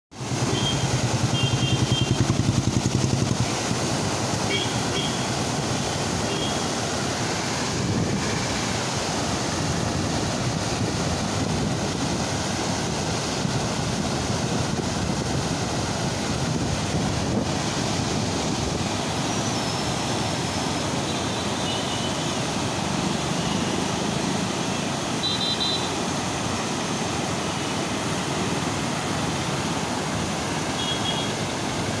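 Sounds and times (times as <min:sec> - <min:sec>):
floodwater rushing through rapids: 0:00.2 - 0:32.0.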